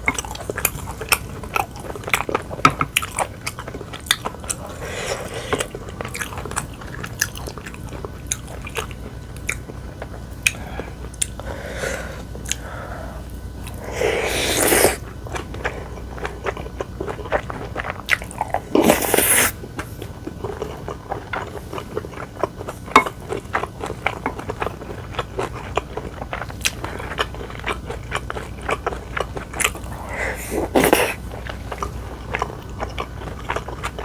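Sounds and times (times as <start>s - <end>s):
chewing and biting food: 0.0s - 34.0s.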